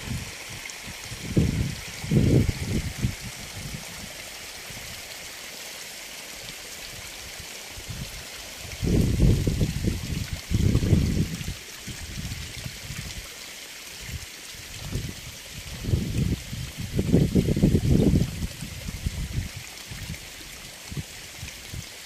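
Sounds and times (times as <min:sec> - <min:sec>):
water running from pipe: 0:00.0 - 0:22.0.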